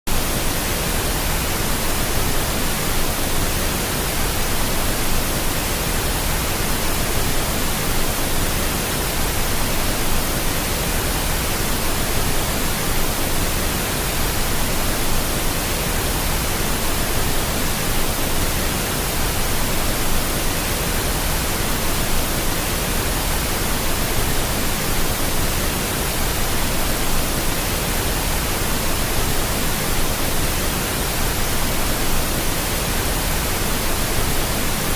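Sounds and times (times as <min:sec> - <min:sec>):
pink noise hiss: 0:00.1 - 0:34.9.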